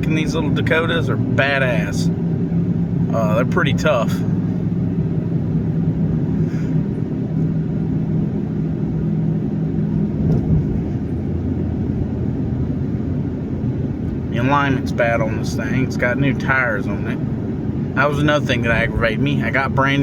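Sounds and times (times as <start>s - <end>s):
road noise: 0.0s - 20.0s
truck engine rumbling: 0.0s - 20.0s.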